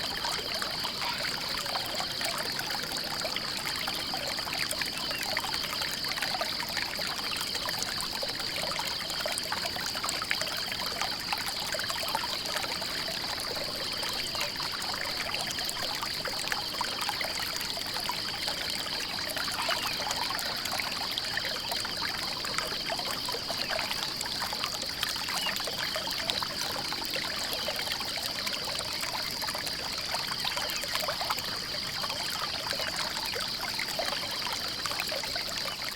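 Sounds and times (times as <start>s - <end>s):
water trickling and pouring: 0.0s - 35.9s.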